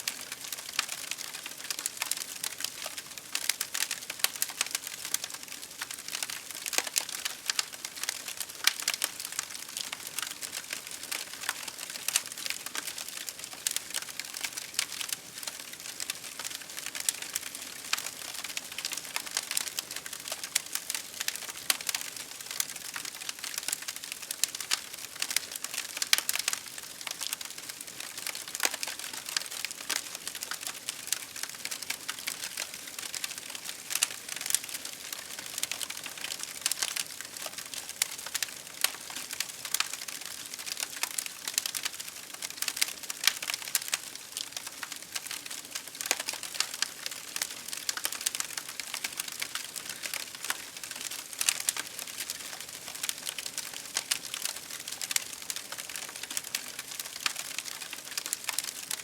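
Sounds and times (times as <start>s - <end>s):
campfire crackling: 0.1s - 59.0s.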